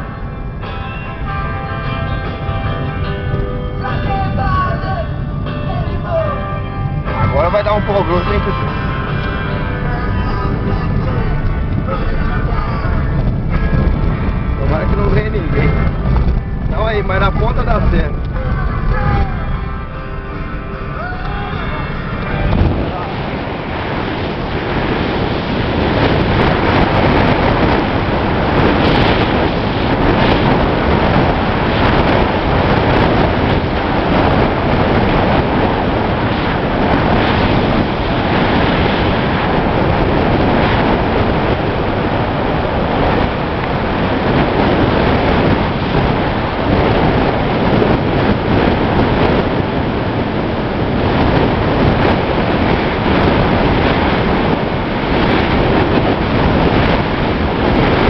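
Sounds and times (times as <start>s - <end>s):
wind and road noise: 0.0s - 58.0s
wind buffeting microphone: 0.0s - 58.0s.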